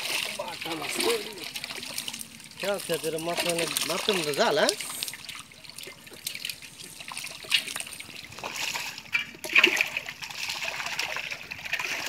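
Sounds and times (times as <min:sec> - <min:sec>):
muddy water splashing: 0:00.0 - 0:12.0.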